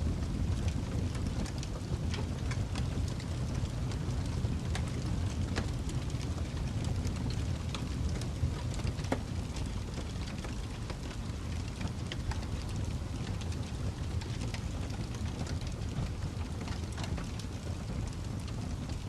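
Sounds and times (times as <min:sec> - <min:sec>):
wood fire burning: 0:00.0 - 0:19.0.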